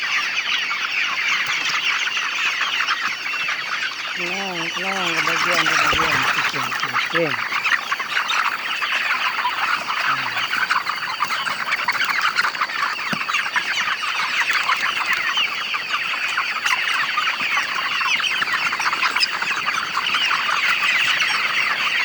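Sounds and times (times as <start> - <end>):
chickens peeping and clucking: 0.0 - 22.0.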